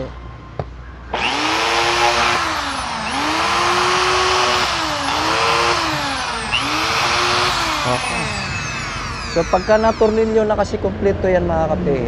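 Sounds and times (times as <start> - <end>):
impact drill motor whining: 1.1 - 10.8.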